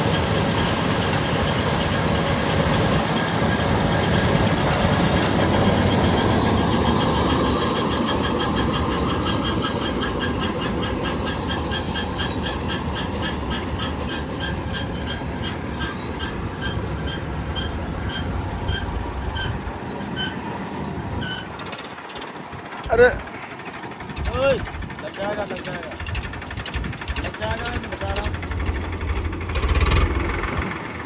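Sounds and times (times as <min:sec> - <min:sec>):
combine harvester running: 0:00.0 - 0:31.0
rhythmic metallic squeak-click: 0:00.0 - 0:31.0.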